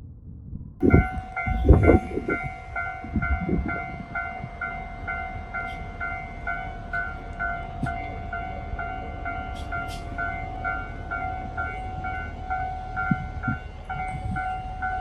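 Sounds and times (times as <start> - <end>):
level-crossing warning bell: 0.8 - 15.0.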